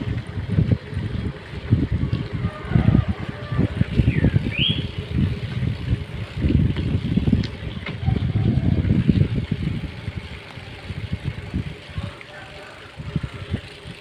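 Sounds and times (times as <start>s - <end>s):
traffic noise: 0.0s - 14.0s
wind buffeting microphone: 0.0s - 14.0s.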